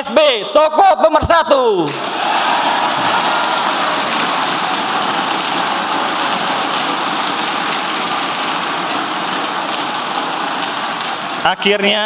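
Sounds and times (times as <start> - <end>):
large audience applauding: 1.9 - 12.0.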